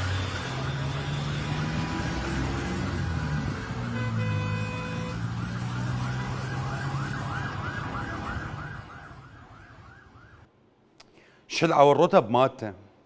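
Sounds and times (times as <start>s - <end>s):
vehicle siren yelping: 0.0s - 10.5s.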